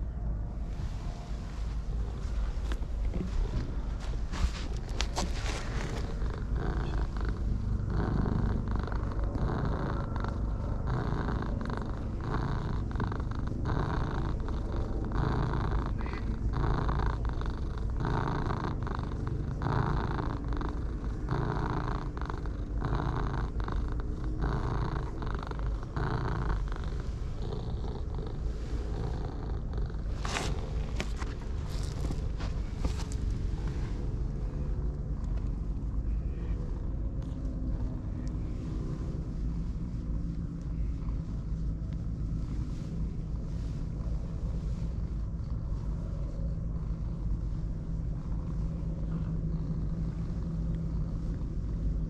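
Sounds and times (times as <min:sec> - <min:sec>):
cat purring: 0:00.0 - 0:52.0.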